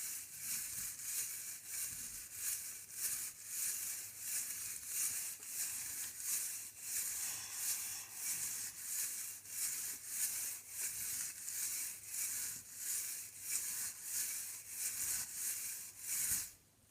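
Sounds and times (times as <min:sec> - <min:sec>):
rhythmic hissy rattle shaking: 0:00.0 - 0:16.5.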